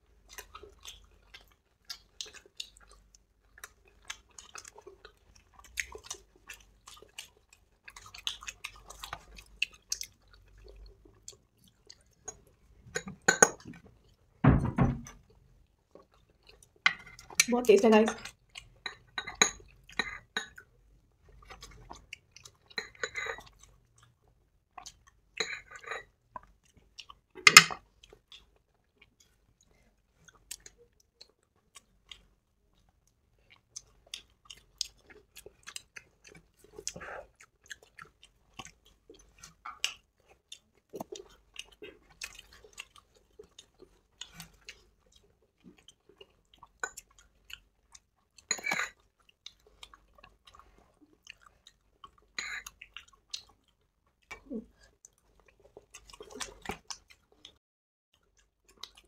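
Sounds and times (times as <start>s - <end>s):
people chewing: 0.0s - 14.3s, 18.2s - 59.0s.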